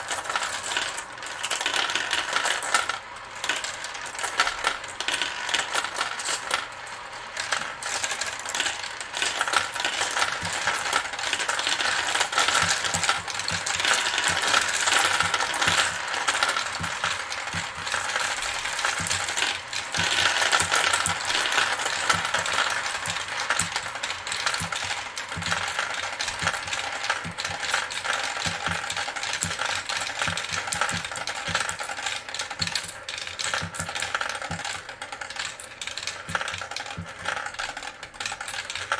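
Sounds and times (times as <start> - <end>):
glass marbles clattering down a marble run: 0.0 - 38.9.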